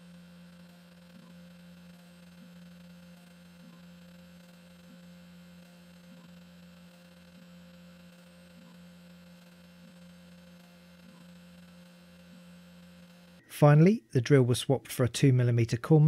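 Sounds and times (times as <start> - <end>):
faint drill pulse: 0.0 - 13.6.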